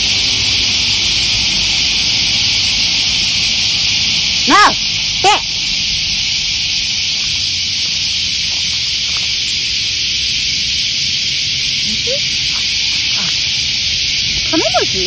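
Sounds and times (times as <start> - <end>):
high rising-and-falling whine: 0.0 - 15.0
high-pitched hiss: 0.0 - 15.0.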